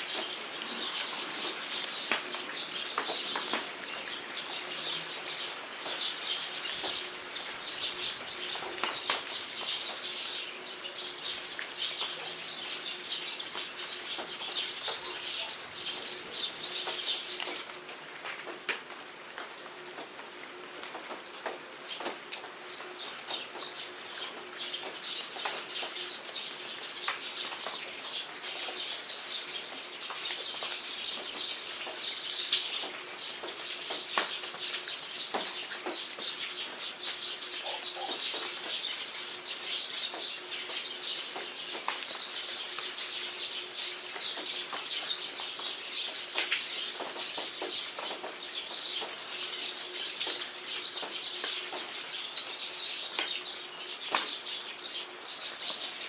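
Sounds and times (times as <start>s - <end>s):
small birds chirping: 0.0s - 18.6s, 21.0s - 56.0s
rain pattering: 0.0s - 56.0s.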